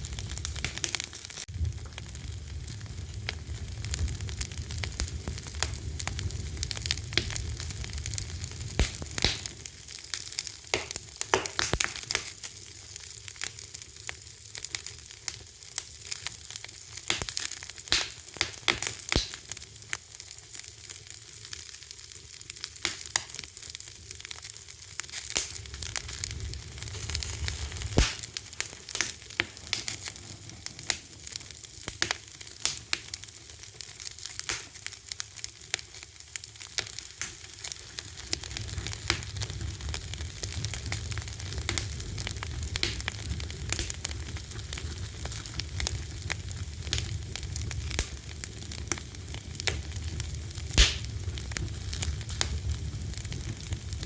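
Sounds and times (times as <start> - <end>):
fire popping: 0.0 - 54.0
low rumble of flames: 0.0 - 54.0
wood fire crackling: 0.0 - 54.0.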